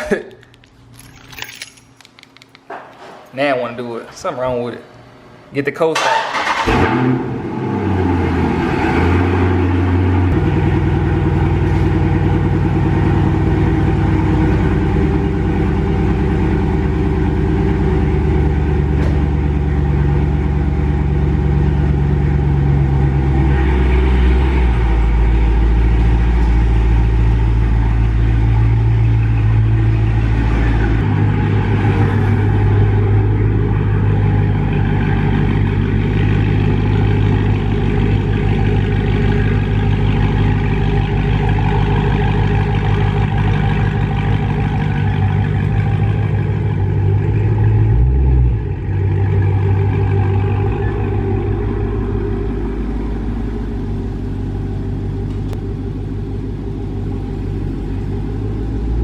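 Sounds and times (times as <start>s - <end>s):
car engine idling: 6.0s - 59.0s.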